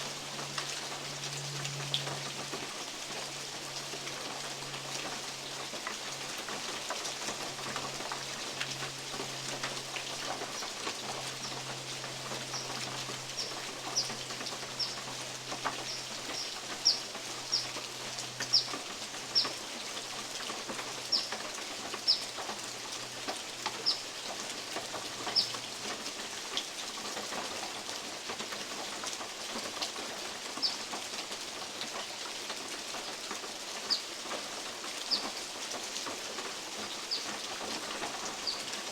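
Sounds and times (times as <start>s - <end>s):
rain on a metal roof and leaves: 0.0s - 38.9s.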